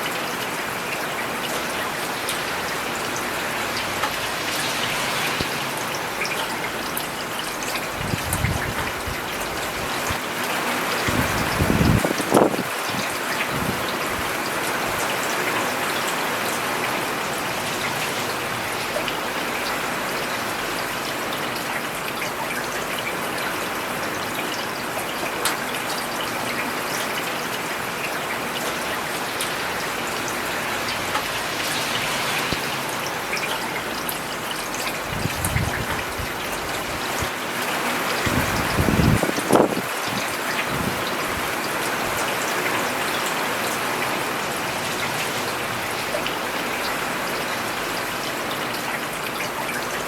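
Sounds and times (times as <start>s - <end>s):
rain on paved road: 0.0s - 50.0s.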